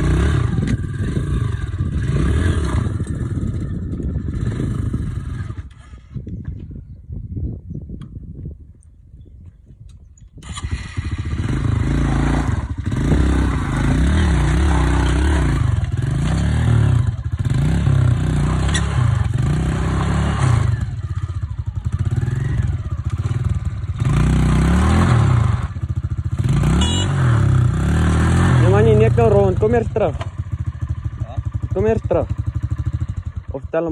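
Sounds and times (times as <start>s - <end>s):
dirt bike engine revving: 0.0s - 6.0s, 10.4s - 33.4s.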